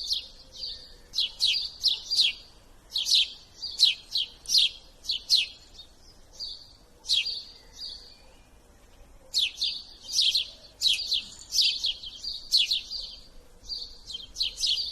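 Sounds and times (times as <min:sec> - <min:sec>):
small bird chirping: 0:00.0 - 0:14.9.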